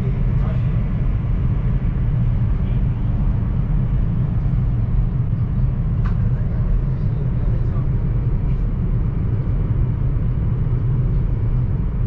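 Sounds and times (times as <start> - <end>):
train rumble from inside cabin: 0.0 - 12.0.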